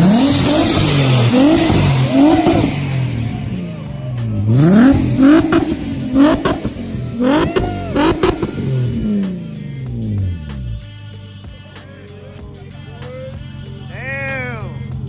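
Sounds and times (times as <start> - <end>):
car engine revving: 0.0 - 15.0
exhaust cracks: 0.0 - 15.0.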